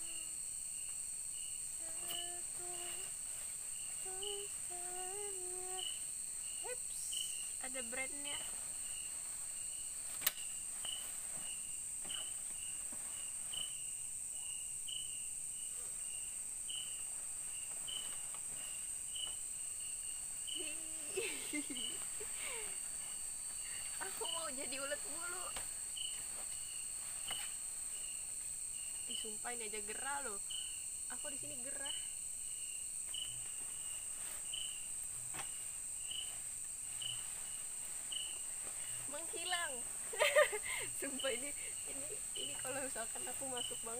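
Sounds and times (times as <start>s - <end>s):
crickets shrilling: 0.0s - 43.9s
insect chirps: 0.0s - 43.9s
insects droning: 0.0s - 43.9s.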